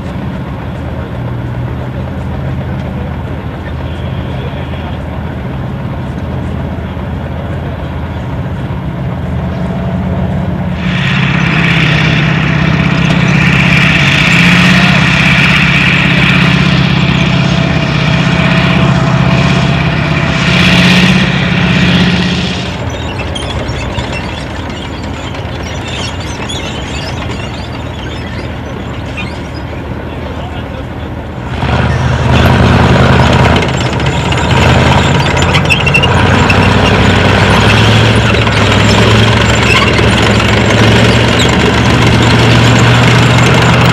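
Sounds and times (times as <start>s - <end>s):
rushing noise: 0.0s - 43.9s
vehicle engine droning: 0.0s - 43.9s.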